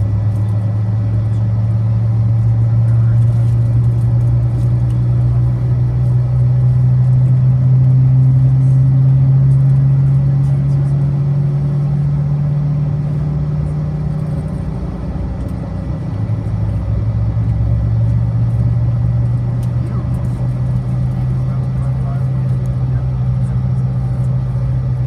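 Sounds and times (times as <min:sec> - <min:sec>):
jet engines humming in cabin: 0:00.0 - 0:25.0.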